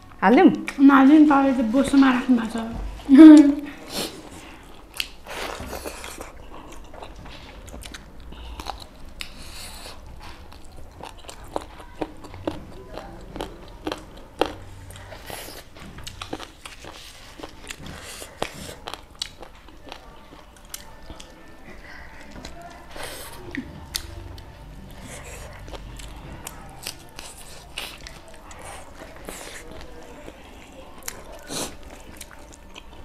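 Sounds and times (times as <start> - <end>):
chewing and crunching food: 3.7 - 33.0.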